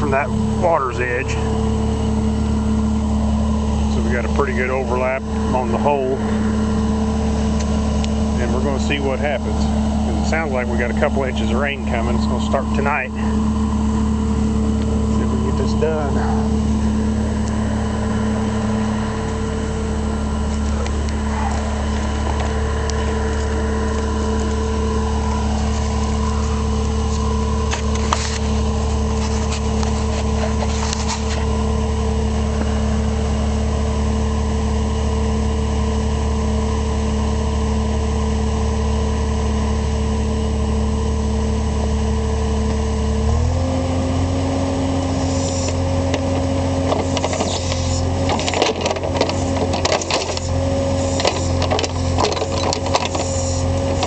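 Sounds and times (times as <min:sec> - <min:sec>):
skid loader engine running: 0:00.0 - 0:54.0.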